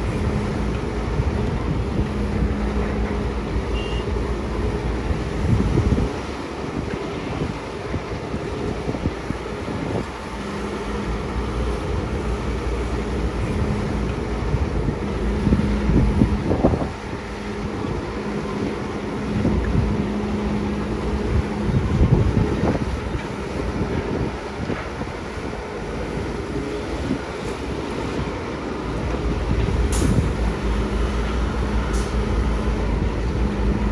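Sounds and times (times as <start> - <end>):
excavator engine and hydraulics: 0.0 - 33.9.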